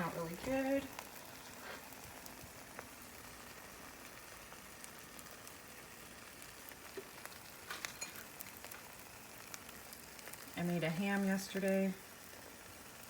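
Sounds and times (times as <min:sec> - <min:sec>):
eggs sizzling in a pan: 0:00.0 - 0:13.0.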